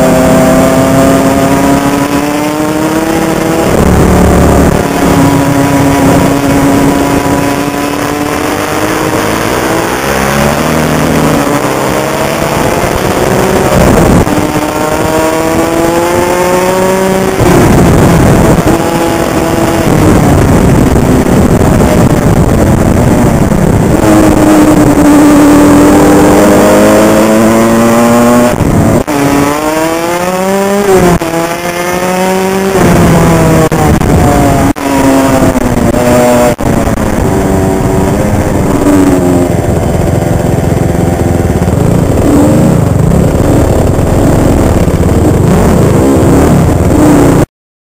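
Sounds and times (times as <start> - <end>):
two-stroke motorcycle engine revving: 0.0 - 47.5.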